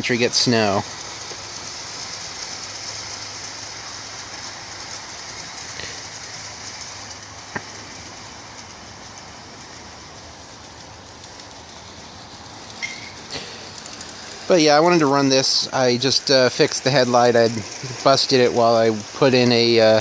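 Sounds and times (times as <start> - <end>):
electric motor running: 0.0 - 20.0
model train wheels on rails: 0.0 - 20.0.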